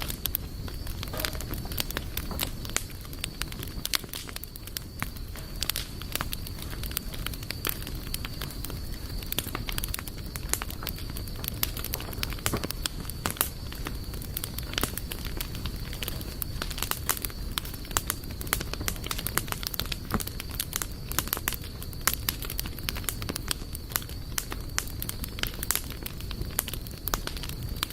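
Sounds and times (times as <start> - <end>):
campfire crackling: 0.0 - 27.9
low flame noise: 0.0 - 27.9.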